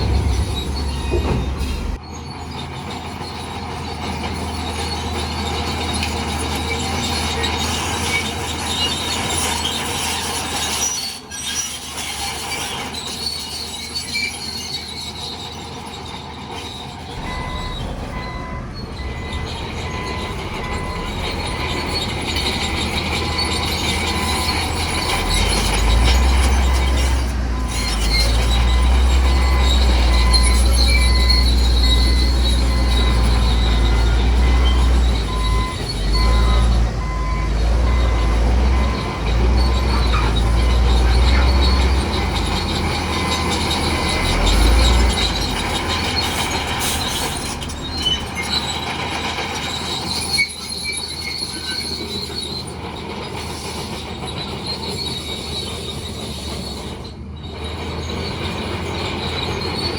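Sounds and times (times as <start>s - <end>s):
crawler tracks squealing and clanking: 0.0s - 59.9s
diesel engine: 0.0s - 59.9s.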